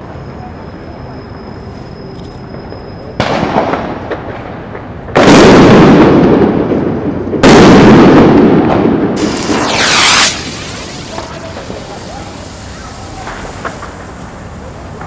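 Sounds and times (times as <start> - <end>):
firecrackers crackling: 2.5 - 15.0.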